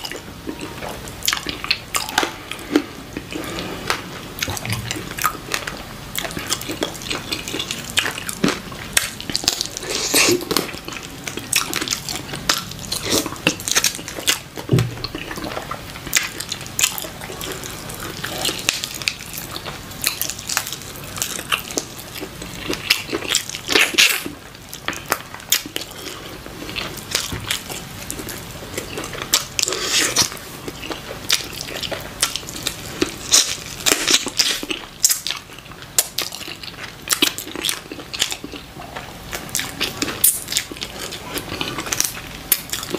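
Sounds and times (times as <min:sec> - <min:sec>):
wet chewing and sucking: 0:00.1 - 0:42.9.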